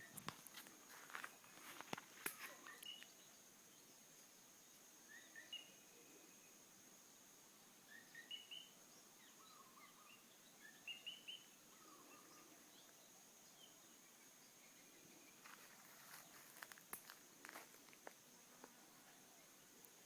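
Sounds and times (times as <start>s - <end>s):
faint bird chirps: 0.0s - 17.6s.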